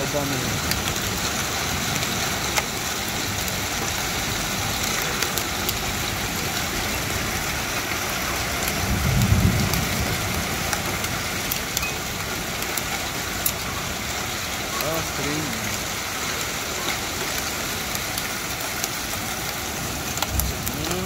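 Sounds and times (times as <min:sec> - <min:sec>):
hail and rain hitting pavement: 0:00.0 - 0:21.0
hailstones clicking close by: 0:00.0 - 0:21.0.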